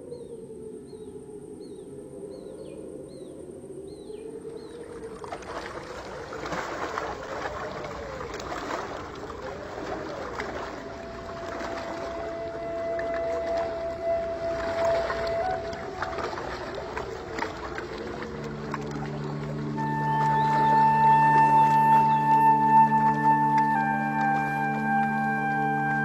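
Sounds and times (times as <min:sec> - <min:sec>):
bird calling: 0:00.0 - 0:26.0
river water splashing on rocks: 0:04.8 - 0:26.0.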